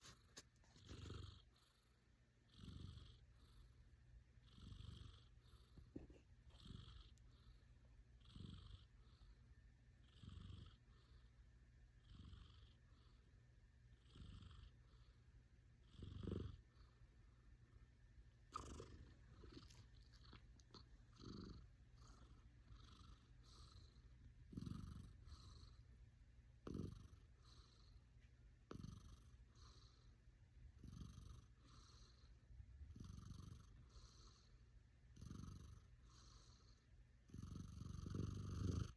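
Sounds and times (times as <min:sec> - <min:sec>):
cat snoring softly: 0:00.0 - 0:17.4, 0:18.5 - 0:38.9.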